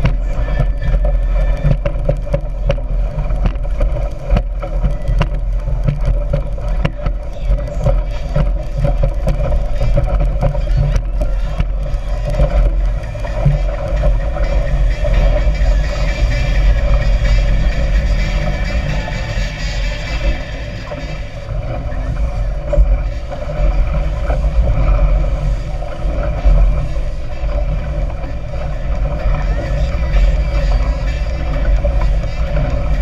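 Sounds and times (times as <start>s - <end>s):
speedboat engine running: 0.0s - 33.0s.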